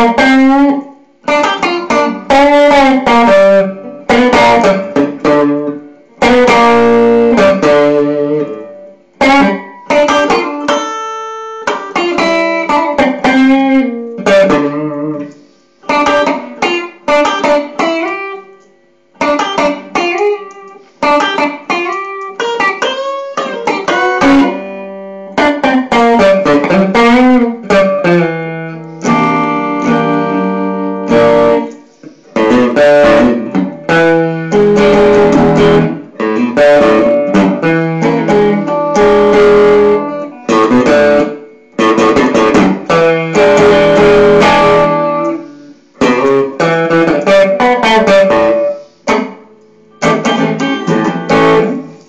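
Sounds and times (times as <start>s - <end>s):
blues electric guitar: 0.0s - 52.0s.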